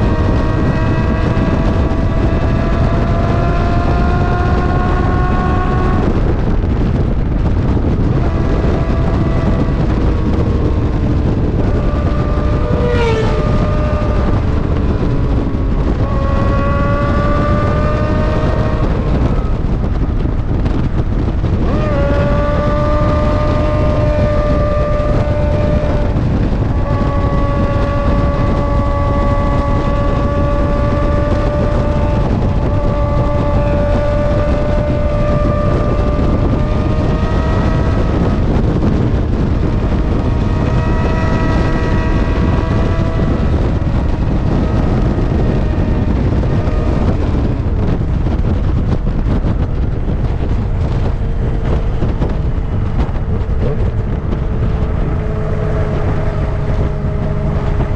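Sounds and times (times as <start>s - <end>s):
motorcycle engine revving: 0.0s - 57.9s
wind rush on microphone: 0.0s - 57.9s.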